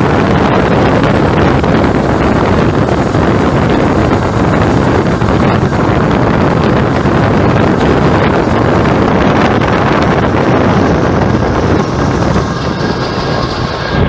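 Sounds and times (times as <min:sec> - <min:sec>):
diesel locomotive rumble: 0:00.0 - 0:14.0
wind buffeting microphone: 0:00.0 - 0:14.0.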